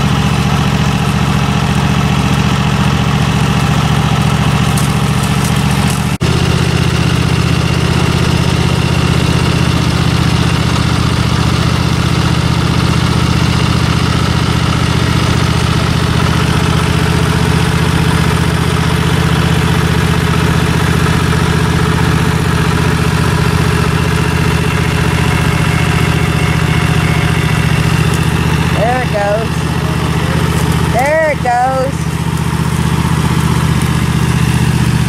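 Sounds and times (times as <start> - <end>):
riding lawn mower engine running: 0.0 - 35.0.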